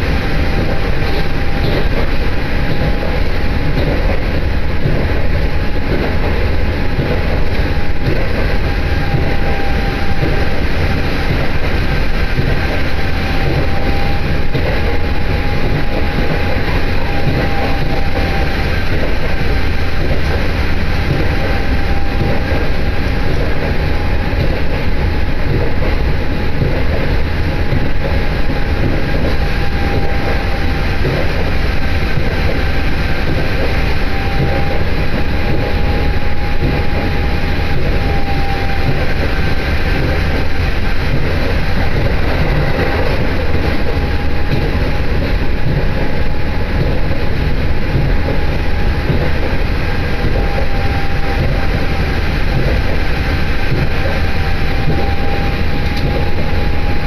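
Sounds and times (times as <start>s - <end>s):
railcar wheels and engine rumbling: 0.0s - 57.0s
thin steady whine: 0.0s - 57.0s.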